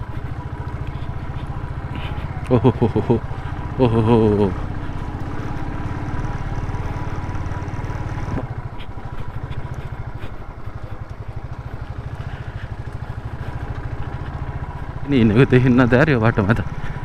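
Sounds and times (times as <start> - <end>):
motorcycle engine climbing: 0.0 - 17.0.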